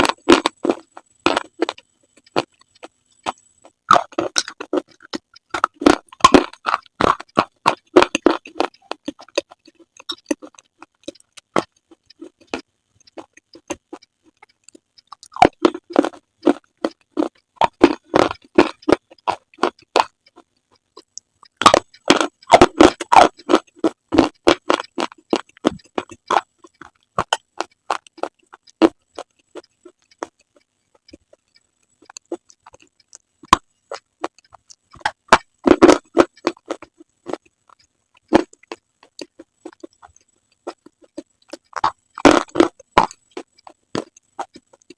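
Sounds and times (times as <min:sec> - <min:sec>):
crunching and chewing slate: 0:00.0 - 0:44.9.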